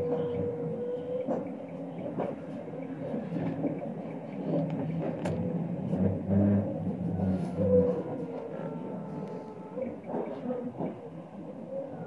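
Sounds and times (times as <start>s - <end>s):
low hum: 0.0s - 12.0s
train wheels rumbling on rails: 0.0s - 12.0s.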